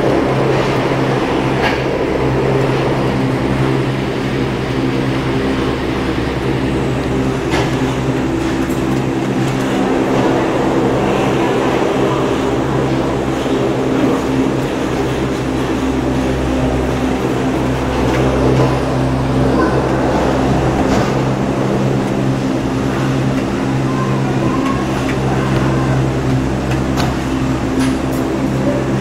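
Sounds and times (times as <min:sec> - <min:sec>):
gondola station machinery humming: 0:00.0 - 0:29.0.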